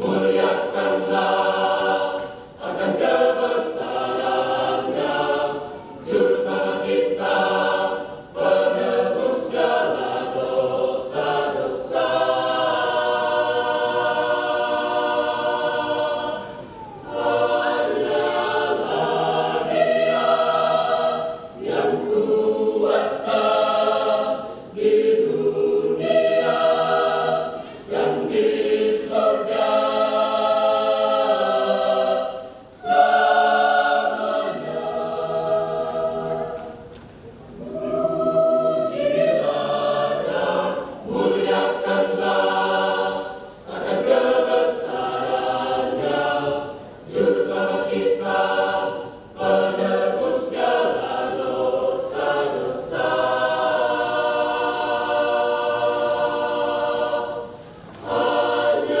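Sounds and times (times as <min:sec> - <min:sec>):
mixed choir singing unaccompanied: 0:00.0 - 0:59.0.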